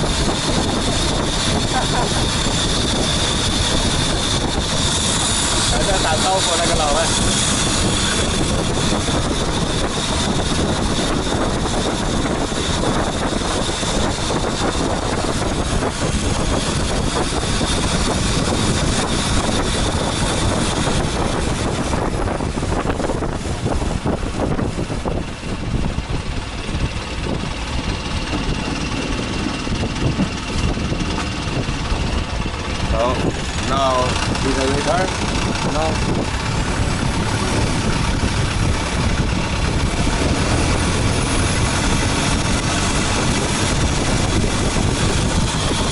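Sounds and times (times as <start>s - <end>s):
motorboat engine running: 0.0s - 45.9s
wind buffeting microphone: 0.0s - 45.9s.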